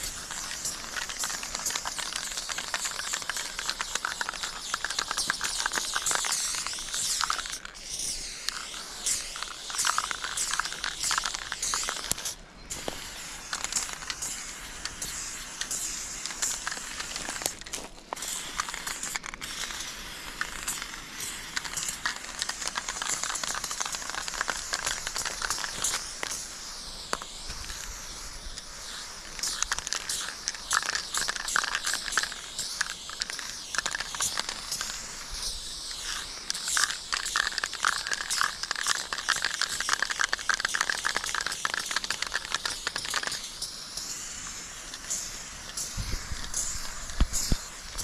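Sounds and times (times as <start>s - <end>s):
dense crackling: 0.0s - 43.5s, 44.7s - 48.0s
spray paint can hissing: 0.0s - 48.0s.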